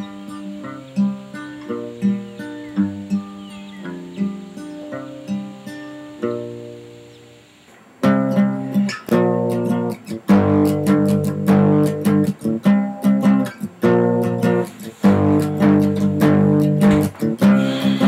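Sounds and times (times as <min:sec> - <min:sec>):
guitar strumming chords: 0:00.0 - 0:18.0.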